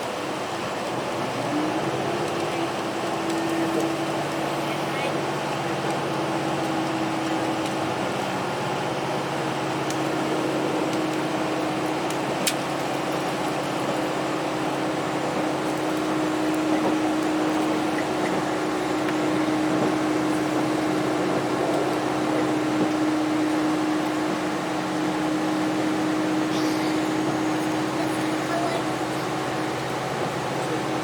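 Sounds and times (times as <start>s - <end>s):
diesel train engine droning: 0.0s - 31.0s.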